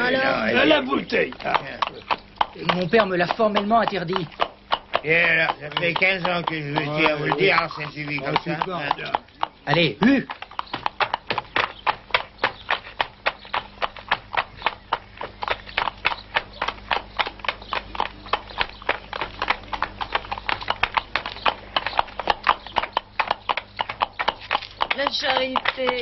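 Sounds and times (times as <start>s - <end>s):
hooves clip-clopping on cobblestones: 0.0s - 26.0s.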